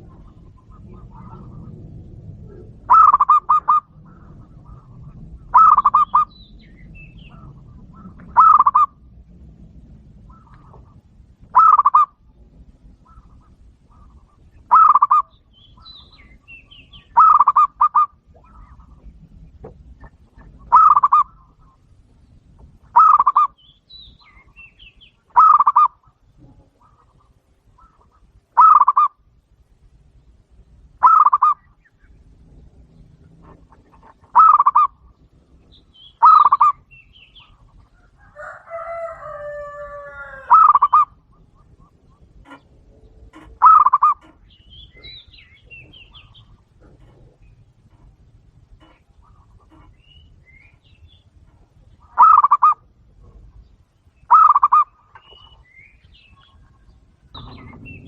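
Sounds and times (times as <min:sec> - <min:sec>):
dove calling in pulsed notes: 0:00.0 - 0:09.4, 0:10.1 - 0:58.0.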